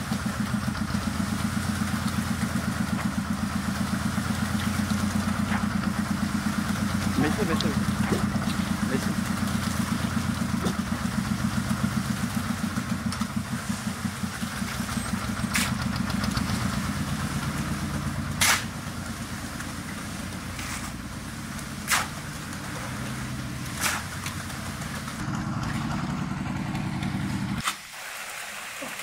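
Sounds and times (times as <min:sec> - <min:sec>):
concrete pump pulsing throb: 0:00.0 - 0:27.6.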